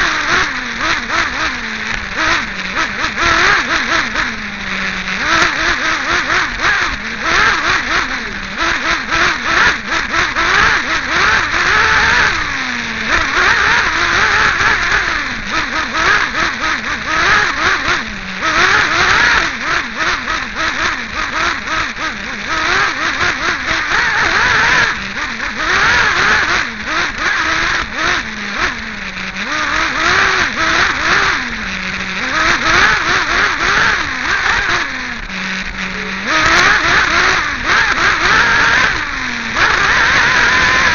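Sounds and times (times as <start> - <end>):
small engine revving and idling: 0.0 - 40.9.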